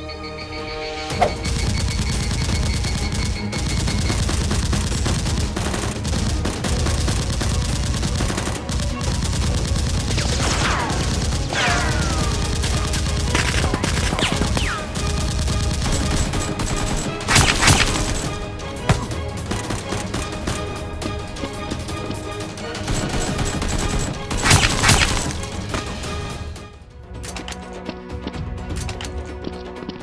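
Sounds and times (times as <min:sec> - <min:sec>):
background music: 0:00.0 - 0:30.0
rapid gunfire: 0:01.3 - 0:26.4.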